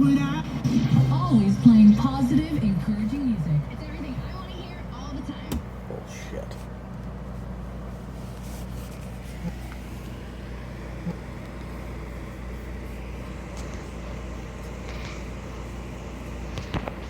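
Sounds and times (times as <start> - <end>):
radio receiver hum and hiss: 0.0 - 17.0.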